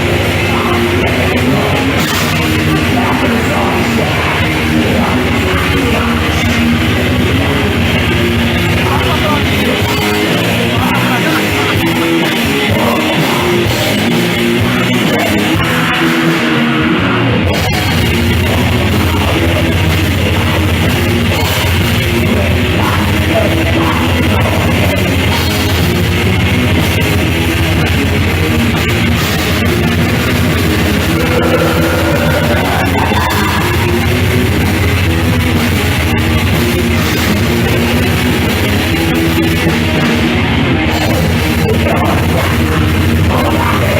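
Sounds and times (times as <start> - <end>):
metal band playing live: 0.0 - 43.9.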